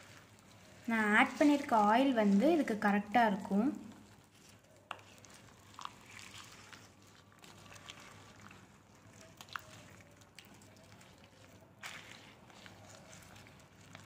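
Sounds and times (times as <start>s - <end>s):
spatula stirring pickle: 0.0s - 14.0s.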